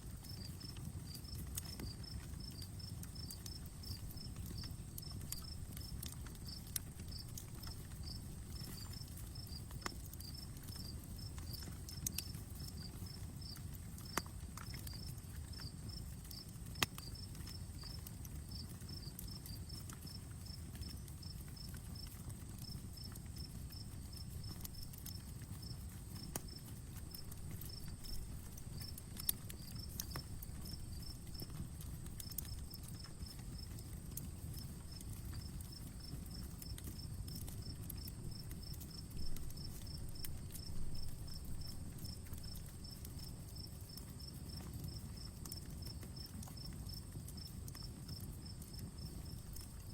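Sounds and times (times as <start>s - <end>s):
campfire crackling and popping: 0.0s - 49.9s
insects chirping: 0.1s - 49.9s.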